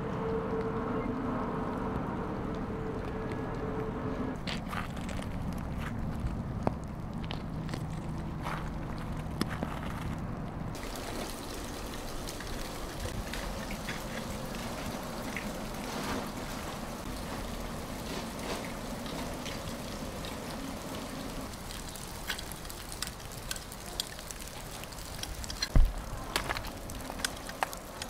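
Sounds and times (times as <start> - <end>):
trickling water: 0.0 - 10.0, 10.7 - 28.0.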